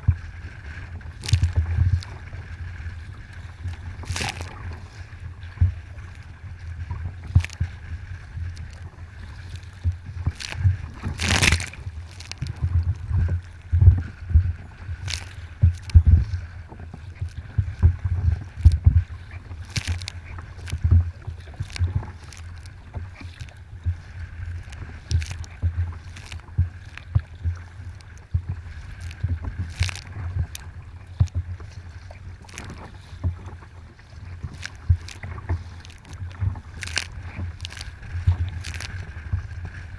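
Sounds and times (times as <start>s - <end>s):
paddle splashing water: 0.0s - 39.9s
steady low rumble: 0.0s - 39.9s.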